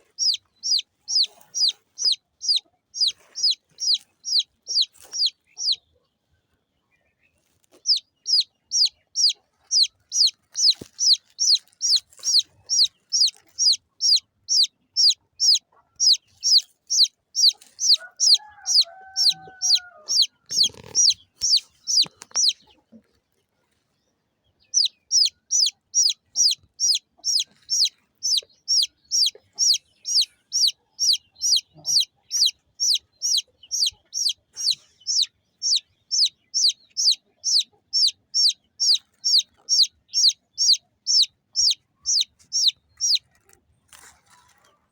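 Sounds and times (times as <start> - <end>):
baby chick peeping: 0.0 - 44.9.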